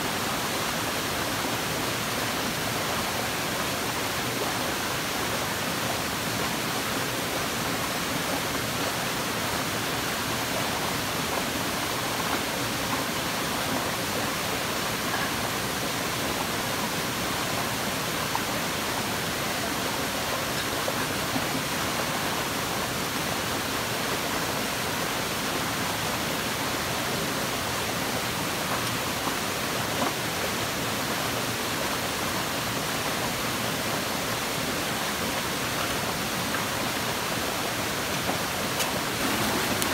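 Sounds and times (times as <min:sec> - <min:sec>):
stream tumbling over rocks: 0:00.0 - 0:39.9.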